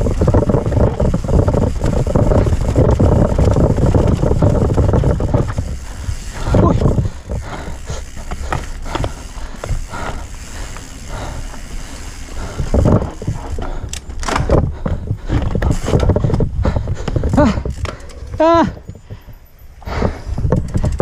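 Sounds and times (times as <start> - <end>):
wind rumble on microphone: 0.0 - 9.1, 12.3 - 21.0
bike chain and frame clattering: 0.0 - 21.0
bike tyres on dirt: 0.0 - 21.0.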